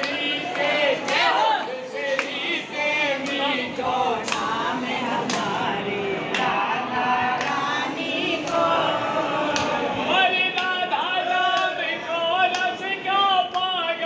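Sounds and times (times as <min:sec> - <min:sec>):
sharp clapping beat: 0:00.0 - 0:03.6, 0:04.2 - 0:06.7, 0:07.3 - 0:11.8, 0:12.5 - 0:13.8
group singing devotional songs: 0:00.0 - 0:14.0.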